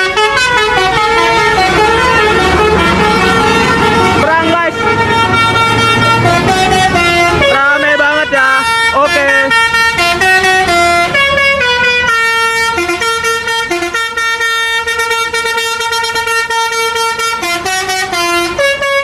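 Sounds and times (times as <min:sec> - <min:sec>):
bus horn playing a melody: 0:00.0 - 0:19.0.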